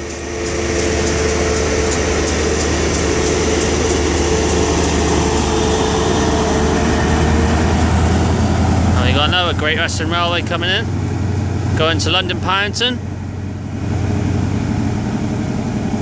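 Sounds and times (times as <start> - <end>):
diesel engine humming: 0.0 - 16.0
steady whine: 0.0 - 16.0
train coaches rolling on rails: 0.0 - 16.0.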